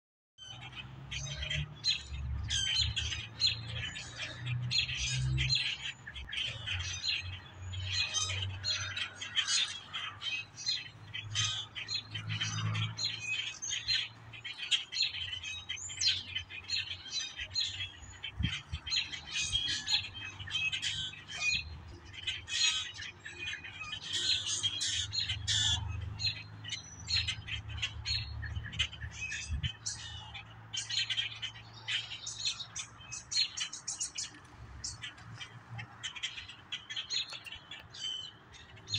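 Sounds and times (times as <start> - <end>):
blackbirds calling: 0.4 - 38.9.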